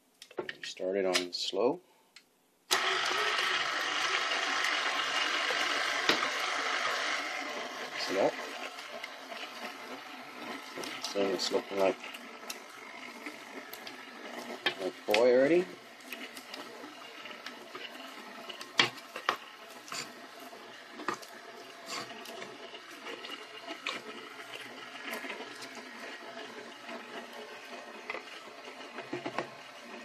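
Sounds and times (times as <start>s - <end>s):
stand mixer motor hum: 2.7s - 30.0s.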